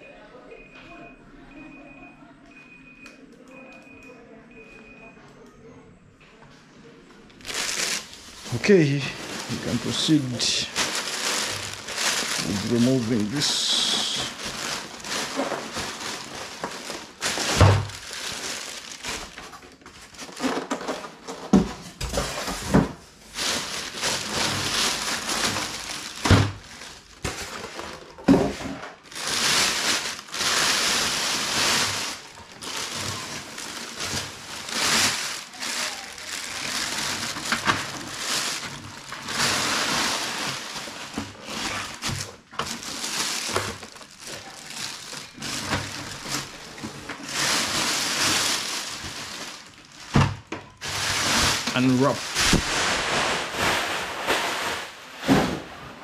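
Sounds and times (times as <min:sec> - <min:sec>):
plastic bag crinkling: 0:07.3 - 0:55.4.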